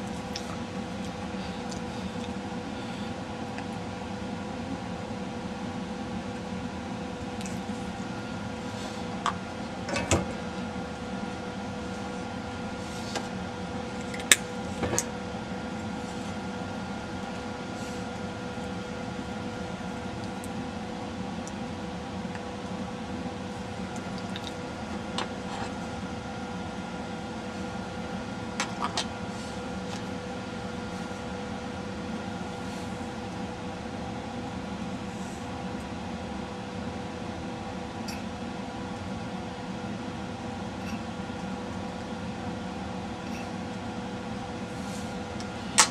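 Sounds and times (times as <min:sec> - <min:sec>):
steady mechanical hum: 0:00.0 - 0:45.9.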